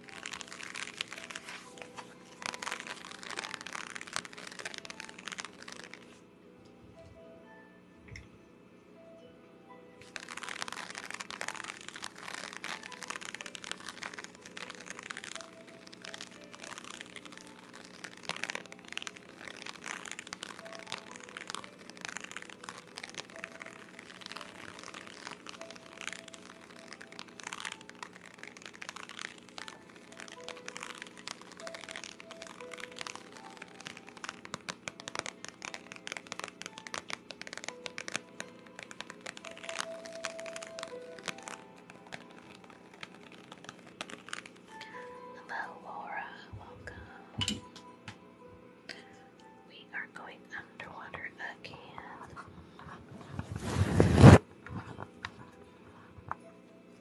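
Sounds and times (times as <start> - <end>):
crackling and scratching on microphone: 0.0 - 6.3, 10.0 - 47.7, 49.8 - 56.6.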